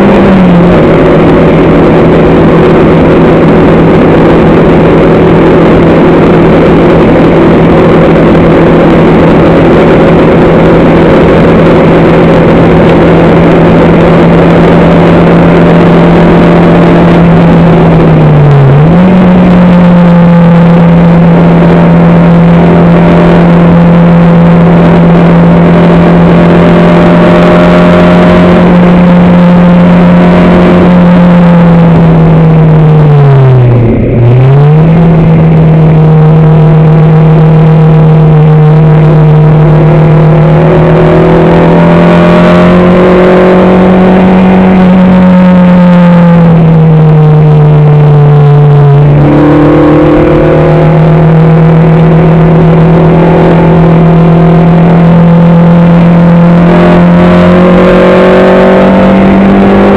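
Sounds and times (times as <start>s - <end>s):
racing engine at full power: 0.0s - 59.9s.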